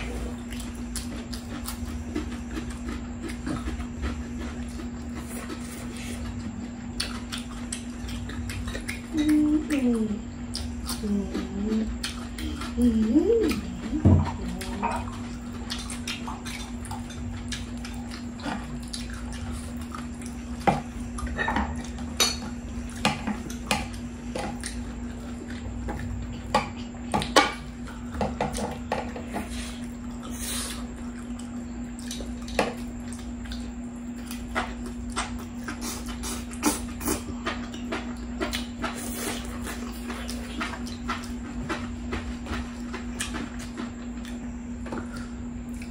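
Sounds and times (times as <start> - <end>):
chewing food: 0.0 - 45.9
steady low hum: 0.0 - 45.9.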